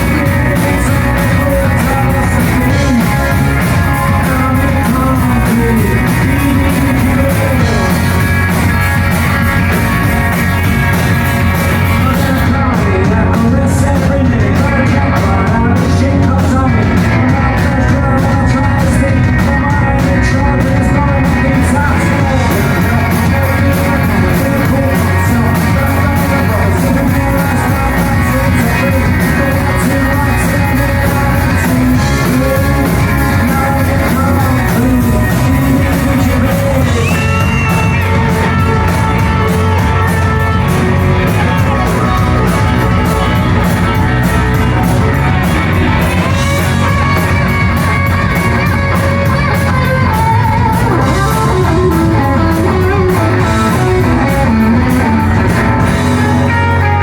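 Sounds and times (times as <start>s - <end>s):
electric guitars: 0.0s - 57.0s
person singing: 0.0s - 57.0s
rock band playing live: 0.0s - 57.0s.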